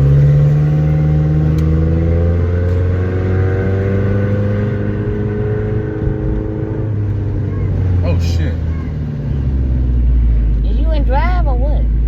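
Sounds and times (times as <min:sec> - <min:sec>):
car engine heard from inside: 0:00.0 - 0:12.0.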